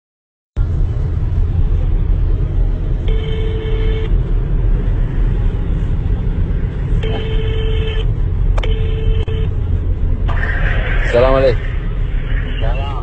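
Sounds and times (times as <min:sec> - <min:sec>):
car road and engine rumble: 0:00.6 - 0:13.0.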